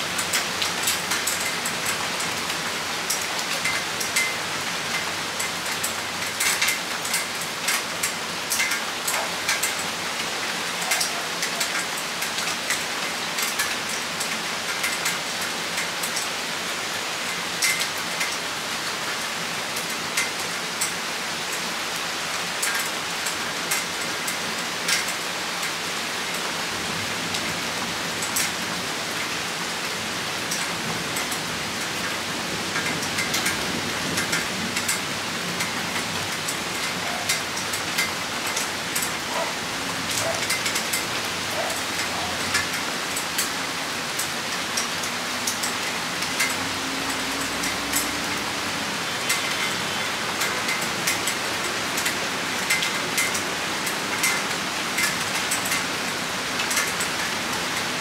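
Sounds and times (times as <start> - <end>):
rain shower hissing: 0.0 - 58.0
raindrops ticking close by: 0.0 - 58.0.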